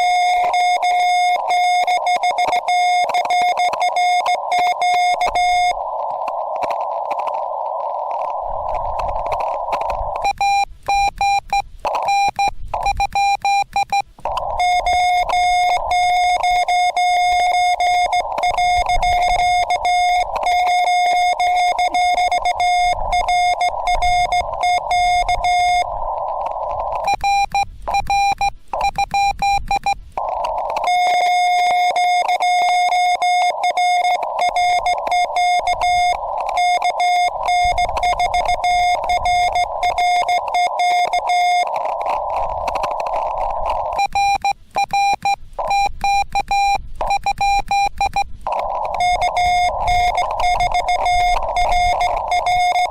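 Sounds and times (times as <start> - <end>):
morse code tones: 0.0 - 52.9
receiver band noise hiss: 0.0 - 52.9.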